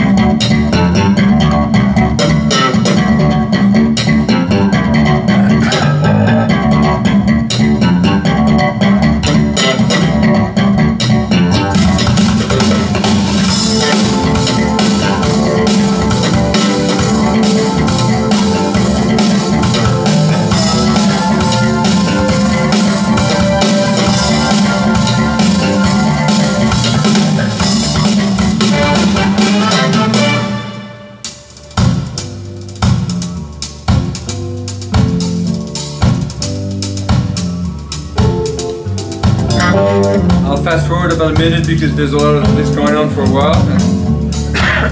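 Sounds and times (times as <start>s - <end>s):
rock music over loudspeakers: 0.0s - 44.9s.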